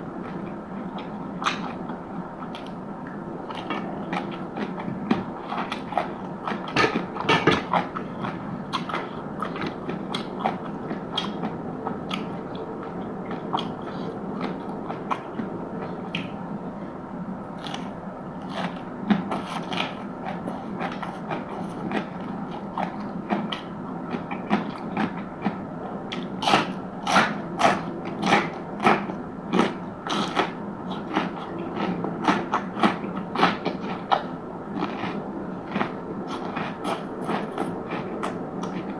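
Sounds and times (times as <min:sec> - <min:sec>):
person chewing crunchy food: 0:03.4 - 0:16.4, 0:17.6 - 0:38.9.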